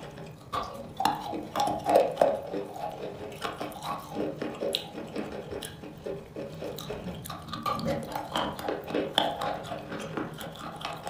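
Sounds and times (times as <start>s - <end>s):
lip smacks: 0.0s - 11.0s
wet mouth eating sounds: 0.0s - 11.0s.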